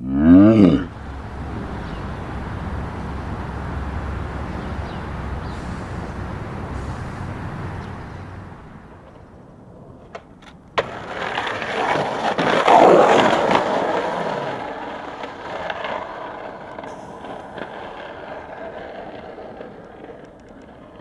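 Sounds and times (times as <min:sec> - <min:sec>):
skateboard clacks: 0:00.7 - 0:21.0
skateboard wheels rolling on pavement: 0:00.7 - 0:21.0.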